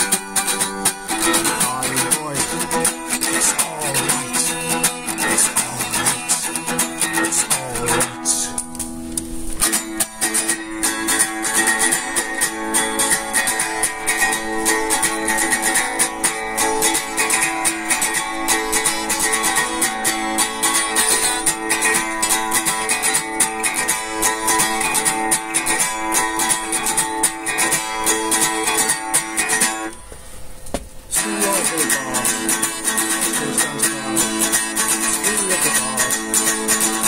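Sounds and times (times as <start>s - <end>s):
guitar strummed rapidly: 0.0s - 30.0s, 31.1s - 37.0s.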